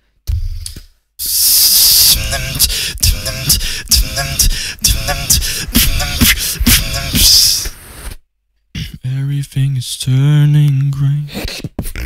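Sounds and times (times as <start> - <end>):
beatboxing into a microphone: 0.4 - 8.0, 8.8 - 9.2, 10.1 - 12.0.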